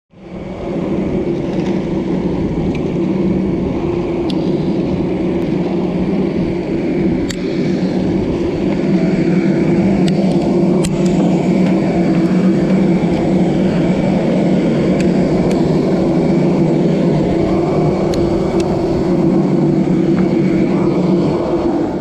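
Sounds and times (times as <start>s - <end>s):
aircraft and ground equipment hum: 0.1s - 22.0s.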